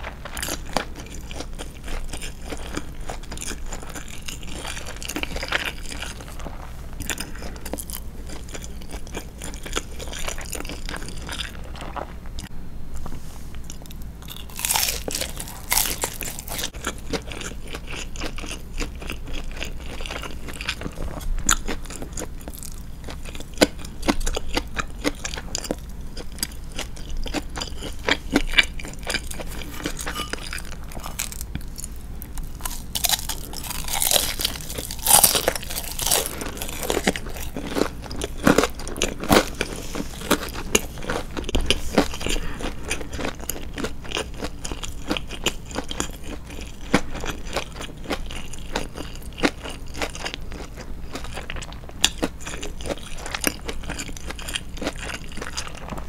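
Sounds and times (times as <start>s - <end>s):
person chewing crunchy food: 0.0s - 12.6s, 13.6s - 56.0s.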